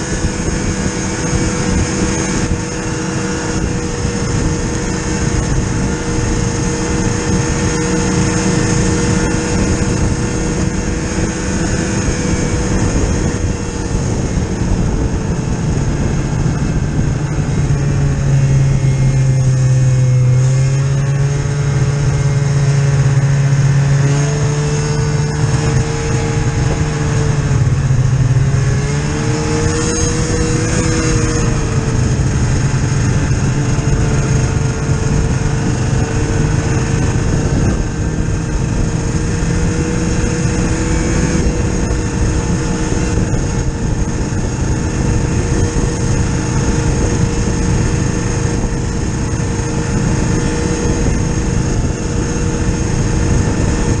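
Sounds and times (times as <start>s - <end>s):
constant rushing noise: 0.0s - 54.0s
snowmobile engine running: 0.0s - 54.0s.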